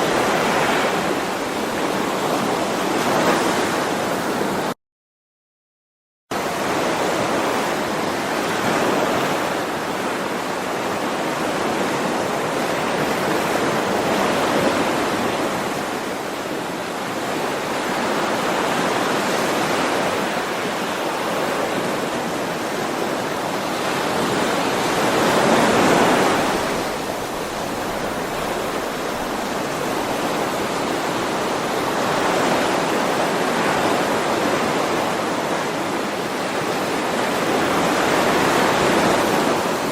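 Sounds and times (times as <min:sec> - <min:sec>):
ocean waves breaking ashore: 0:00.0 - 0:04.8, 0:06.4 - 0:39.9.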